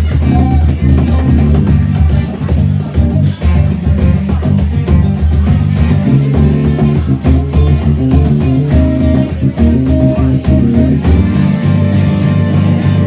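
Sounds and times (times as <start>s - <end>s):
bass guitar: 0.0s - 13.0s
drum beat: 0.0s - 13.0s
electric guitar: 0.0s - 13.0s.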